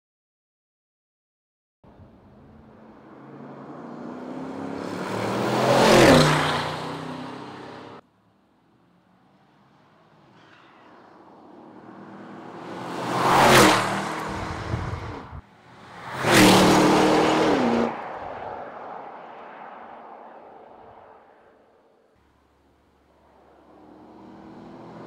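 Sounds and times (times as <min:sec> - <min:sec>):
cars driving past at speed: 0:02.0 - 0:08.0, 0:08.6 - 0:25.0.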